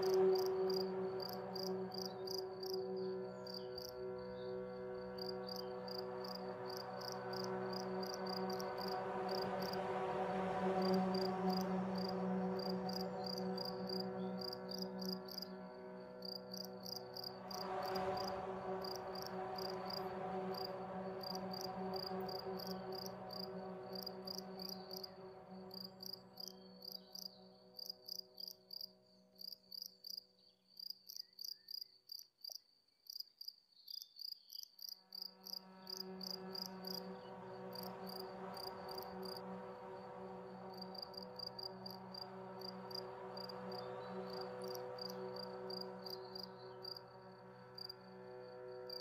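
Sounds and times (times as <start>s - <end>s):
crickets chirping: 0.0s - 9.8s, 10.6s - 49.0s
soft music drone: 0.0s - 30.5s, 35.0s - 49.0s.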